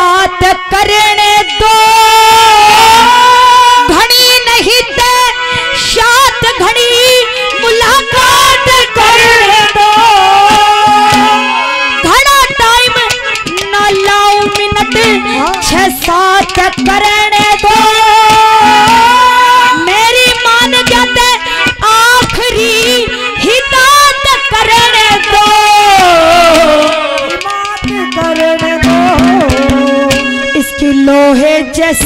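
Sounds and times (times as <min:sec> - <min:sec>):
woman singing: 0:00.0 - 0:32.0
hand drums on clay pots: 0:03.9 - 0:32.0.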